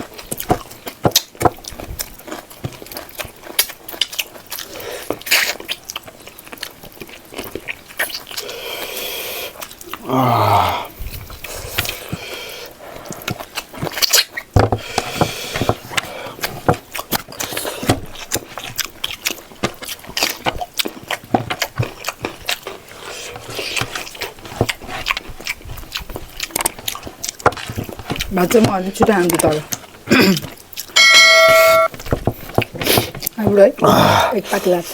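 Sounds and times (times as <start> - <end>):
chewing and mouth smacks: 0.0 - 10.1, 10.9 - 31.0, 32.0 - 33.4.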